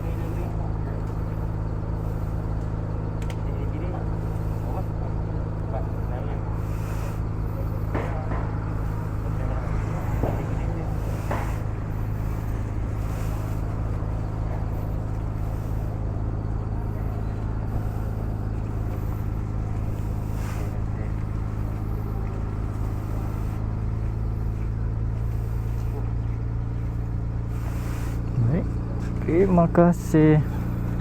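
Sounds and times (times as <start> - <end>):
motorcycle engine cruising: 0.0 - 31.0
road noise: 0.0 - 31.0.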